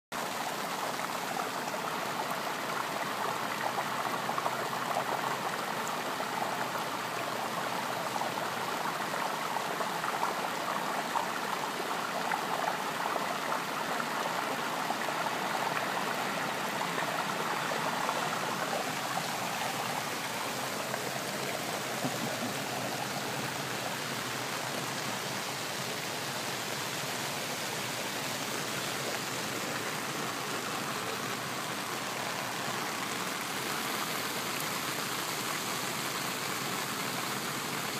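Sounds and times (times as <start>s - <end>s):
floodwater rushing over curb: 0.2s - 37.9s.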